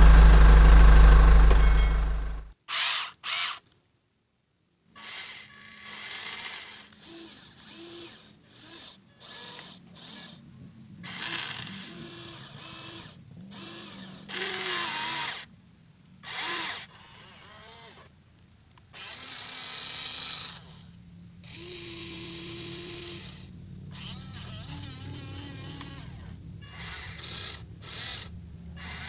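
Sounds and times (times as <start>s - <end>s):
small electric motors whining: 0.0s - 3.6s, 4.9s - 10.4s, 11.0s - 15.5s, 16.2s - 18.1s, 18.9s - 29.0s.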